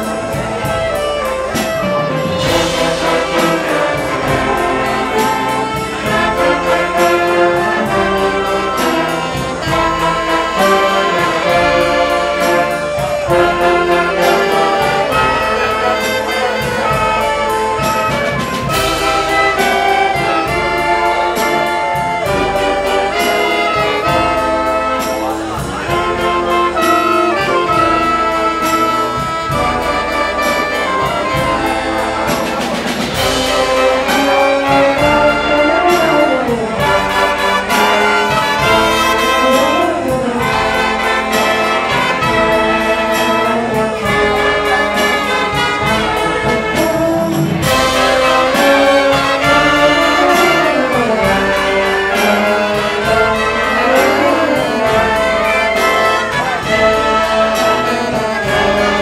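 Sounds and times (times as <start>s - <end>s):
wind band playing: 0.0s - 59.0s.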